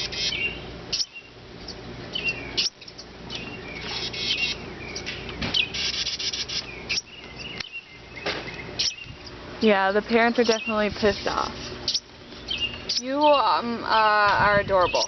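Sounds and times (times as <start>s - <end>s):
finches chirping: 0.0s - 15.0s.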